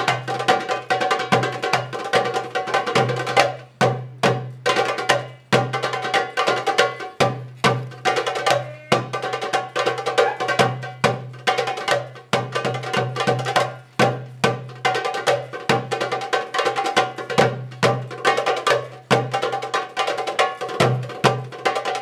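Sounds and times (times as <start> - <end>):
goblet drums playing fast: 0.0 - 22.0.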